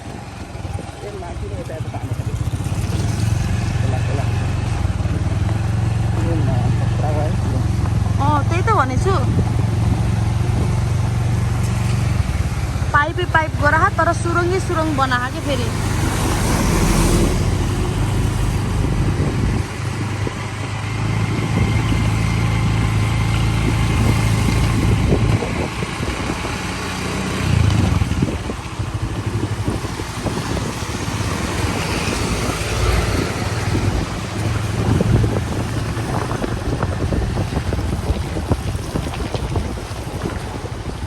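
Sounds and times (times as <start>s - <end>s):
road and wind noise: 0.0s - 41.0s
vehicle engine drone: 0.0s - 41.0s.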